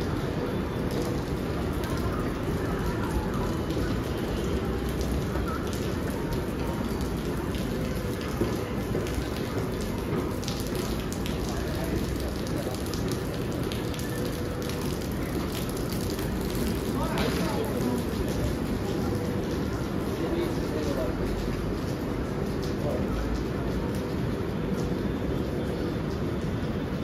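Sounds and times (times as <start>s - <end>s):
light rain pattering: 0.0s - 27.0s.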